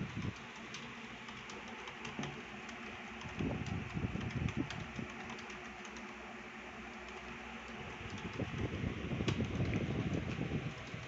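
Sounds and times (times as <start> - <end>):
fan-like hum: 0.0 - 11.0
keyboard typing clicks: 0.2 - 6.3, 6.9 - 9.8.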